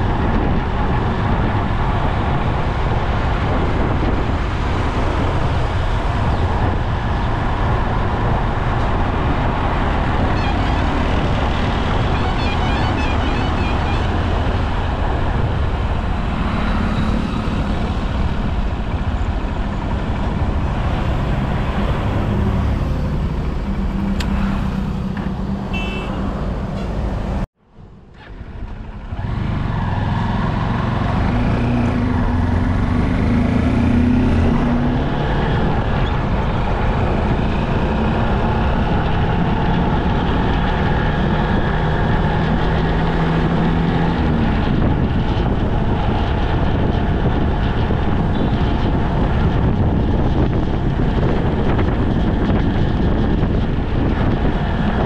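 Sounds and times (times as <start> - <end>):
tyre and wind noise: 0.0 - 55.0
vehicle engine hum: 0.0 - 55.0.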